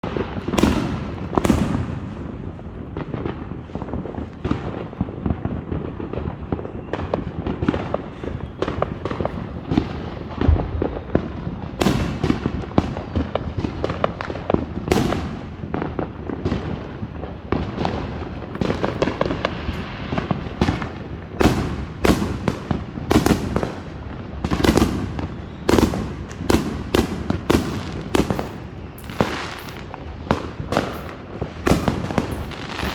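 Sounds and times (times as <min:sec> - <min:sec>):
fireworks bangs: 0:00.0 - 0:32.9
fireworks crackling: 0:00.0 - 0:32.9.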